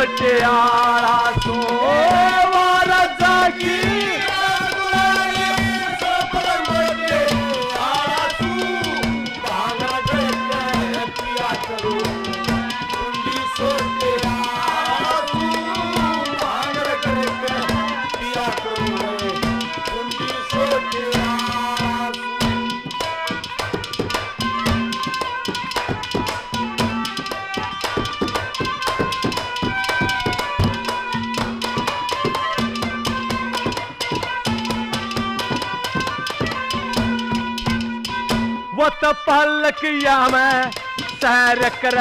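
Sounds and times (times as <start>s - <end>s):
clay pot struck as percussion: 0.0s - 38.9s, 40.0s - 42.0s
hand drums: 0.0s - 42.0s
harmonium playing held notes: 0.0s - 42.0s.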